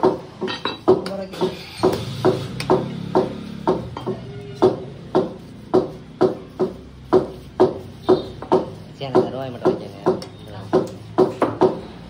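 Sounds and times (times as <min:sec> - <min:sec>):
knife knocking on wooden block: 0:01.8 - 0:11.8.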